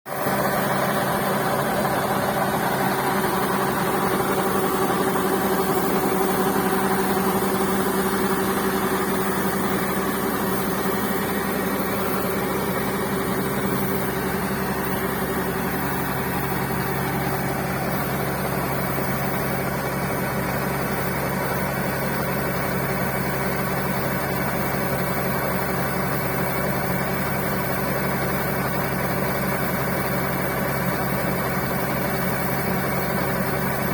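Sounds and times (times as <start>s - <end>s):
combine harvester diesel engine: 0.1s - 33.9s.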